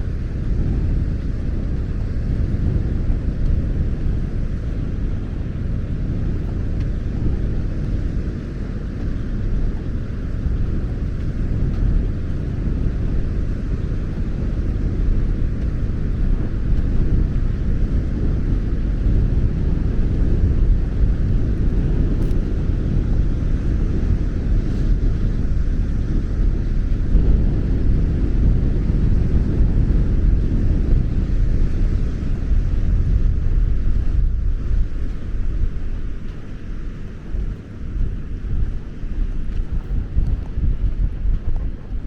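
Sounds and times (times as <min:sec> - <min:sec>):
wind rumbling over microphone: 0:00.0 - 0:42.0.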